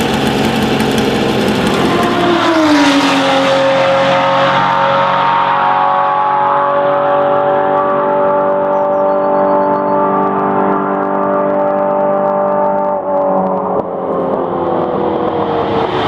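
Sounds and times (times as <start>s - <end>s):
racing engine running: 0.0s - 16.0s.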